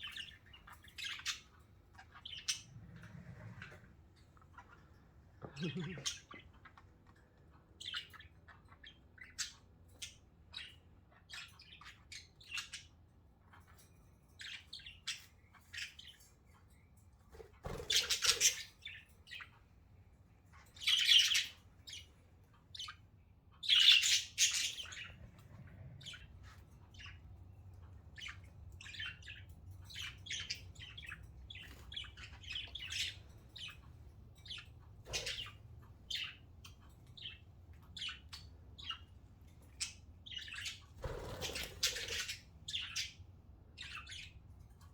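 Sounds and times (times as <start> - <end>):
budgerigars chirping: 0.0 - 5.0, 7.8 - 12.9, 17.4 - 19.8, 20.5 - 44.5.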